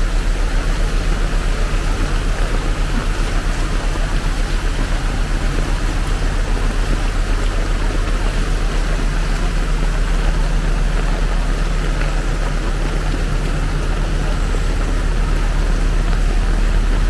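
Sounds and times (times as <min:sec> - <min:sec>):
rushing floodwater: 0:00.0 - 0:17.0
vehicle engine running: 0:00.0 - 0:17.0.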